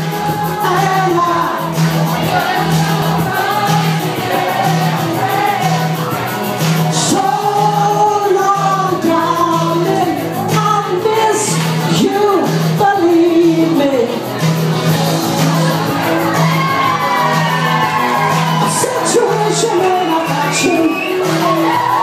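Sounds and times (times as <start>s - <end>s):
pop music with singing: 0.0s - 22.0s
steady bass beat: 0.0s - 22.0s.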